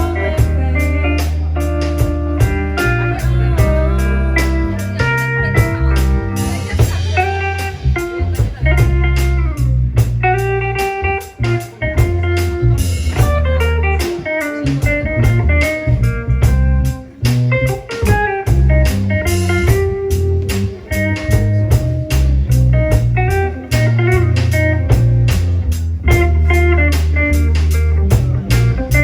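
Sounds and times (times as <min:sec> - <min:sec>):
drum kit beat: 0:00.0 - 0:29.0
guitar: 0:00.0 - 0:29.0
heavy bass line: 0:00.0 - 0:29.0
live blues band: 0:00.0 - 0:29.0.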